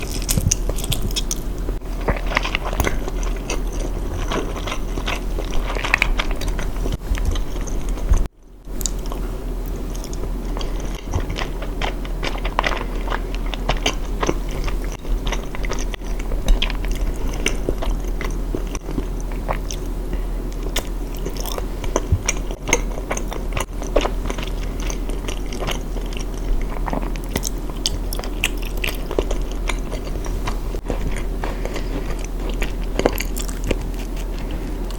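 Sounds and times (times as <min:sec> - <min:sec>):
crunchy biting and chewing: 0:00.0 - 0:34.9
steady low hum: 0:00.0 - 0:34.9.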